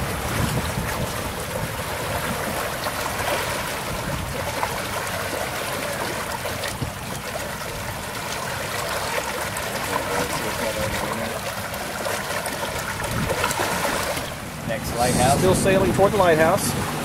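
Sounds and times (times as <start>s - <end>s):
water rushing along a hull: 0.0s - 17.0s.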